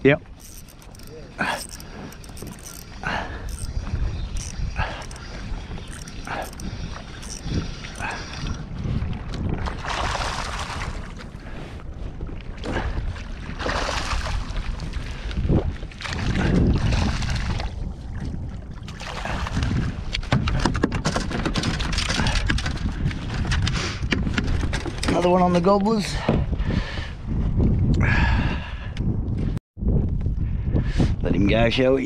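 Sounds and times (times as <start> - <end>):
wind gusting on microphone: 0.0 - 32.0.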